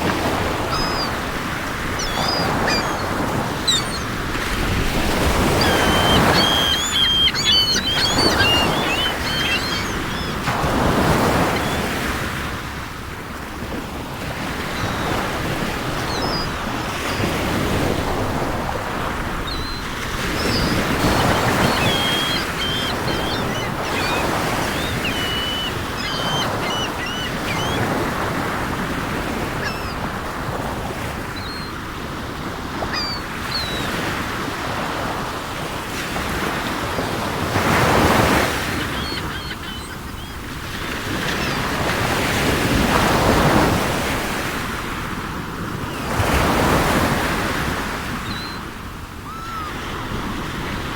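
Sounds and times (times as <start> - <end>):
seagulls calling: 0.0 - 12.6, 14.2 - 35.3, 35.9 - 44.5, 45.9 - 50.9
sea waves washing ashore: 0.0 - 50.9.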